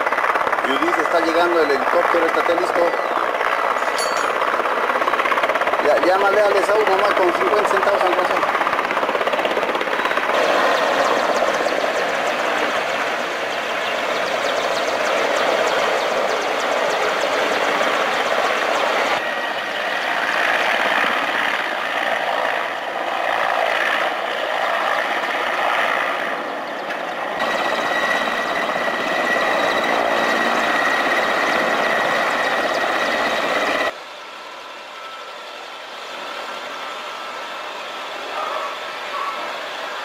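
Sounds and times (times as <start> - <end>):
helicopter rotor rushing: 0.0 - 40.0
high turbine whine: 0.0 - 40.0.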